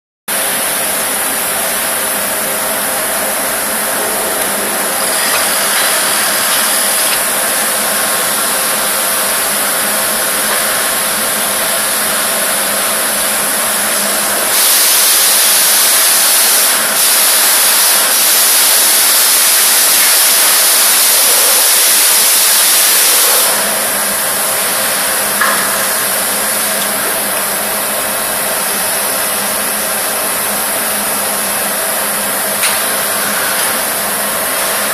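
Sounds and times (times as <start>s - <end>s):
machinery hum: 0.3s - 34.9s
loud hiss: 0.4s - 34.9s.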